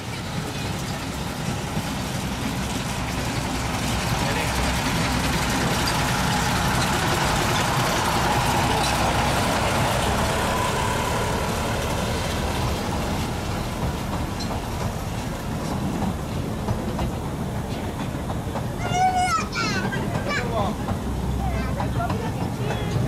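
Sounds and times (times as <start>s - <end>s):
train running: 0.0s - 23.0s.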